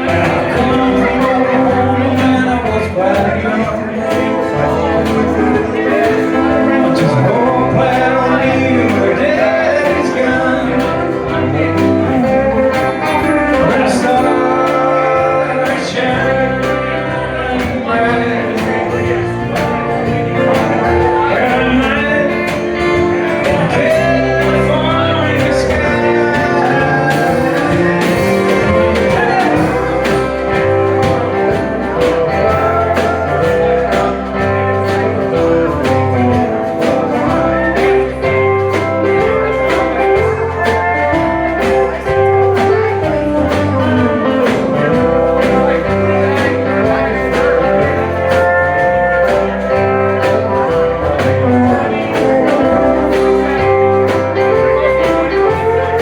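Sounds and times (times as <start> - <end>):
country band playing live: 0.0 - 56.0.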